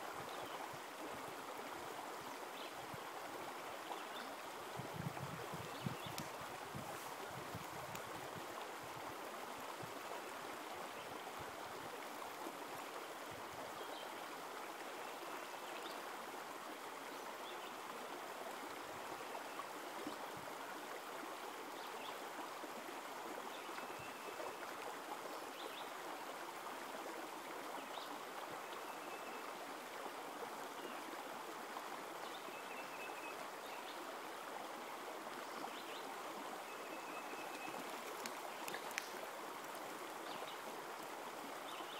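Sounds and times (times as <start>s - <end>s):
creek running over rocks: 0.0s - 41.9s.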